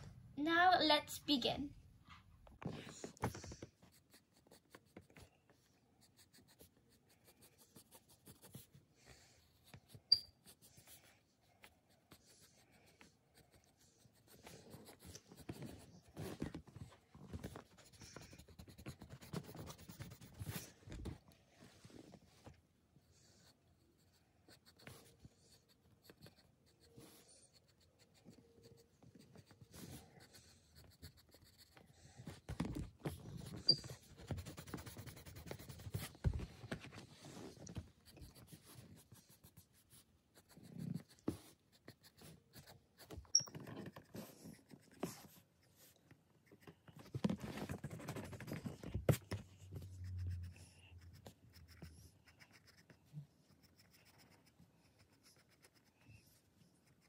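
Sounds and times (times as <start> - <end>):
pencil scratching on paper: 2.8 - 5.3, 6.0 - 16.7, 17.3 - 21.1, 23.1 - 57.0.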